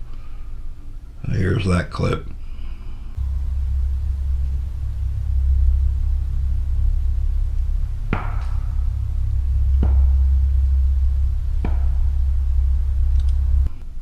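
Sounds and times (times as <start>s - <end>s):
low steady rumble: 2.4s - 14.0s.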